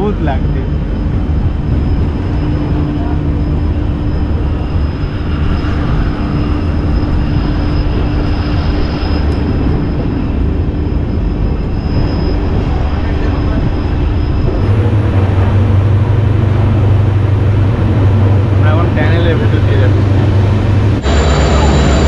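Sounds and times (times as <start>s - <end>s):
rushing air: 0.0s - 22.0s
train wheels rumbling on rails: 0.0s - 22.0s.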